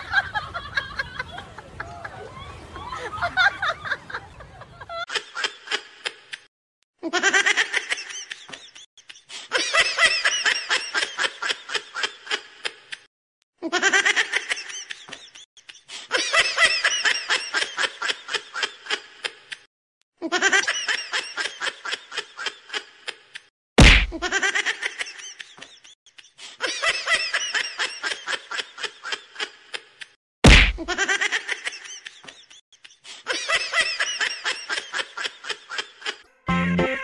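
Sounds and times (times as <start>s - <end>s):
laugh track laughter: 0.0s - 23.5s, 24.1s - 30.2s, 30.8s - 37.0s.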